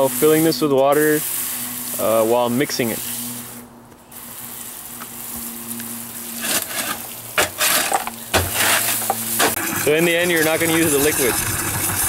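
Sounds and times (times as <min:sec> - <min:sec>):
hose spray nozzle hissing: 0:00.0 - 0:12.0
wet charcoal scraping and sloshing: 0:00.0 - 0:12.0.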